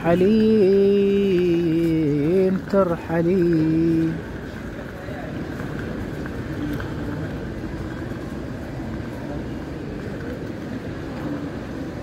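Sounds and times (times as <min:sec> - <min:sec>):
bustle of passers-by: 0:00.0 - 0:12.0.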